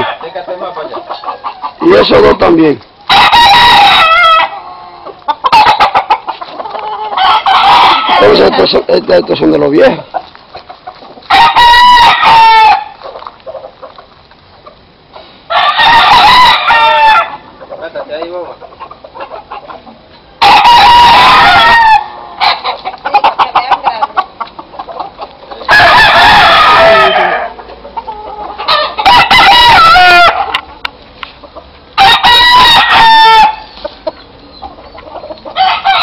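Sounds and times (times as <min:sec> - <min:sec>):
roosters crowing: 0:00.0 - 0:14.7, 0:15.4 - 0:36.0.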